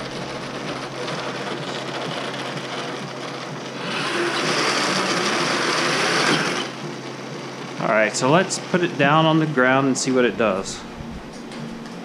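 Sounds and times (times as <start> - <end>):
electric motors whirring: 0.0 - 12.0.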